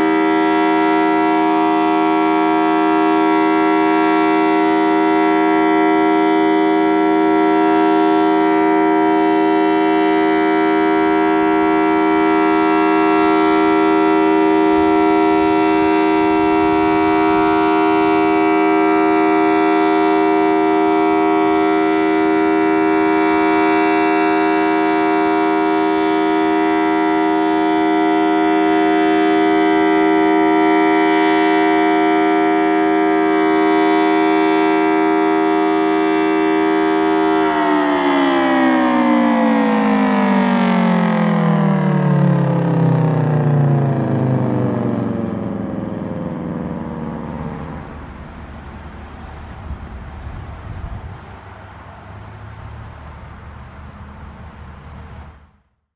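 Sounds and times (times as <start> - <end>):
two-tone siren: 0.0 - 55.9.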